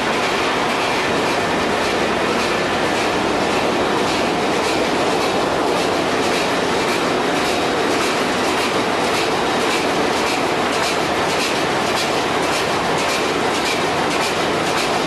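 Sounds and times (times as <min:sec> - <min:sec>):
engine clatter: 0:00.0 - 0:15.0
marine diesel engine running: 0:00.0 - 0:15.0.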